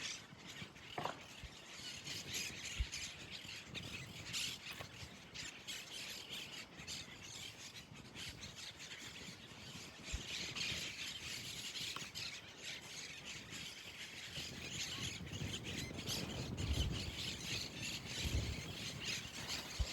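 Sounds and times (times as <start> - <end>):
birds chattering and squawking: 0.0 - 19.9.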